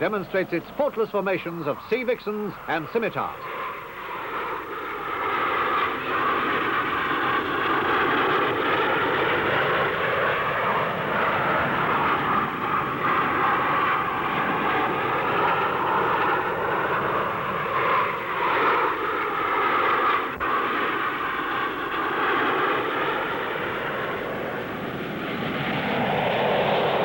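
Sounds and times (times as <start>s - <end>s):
jet fighters flying past: 0.0s - 27.0s.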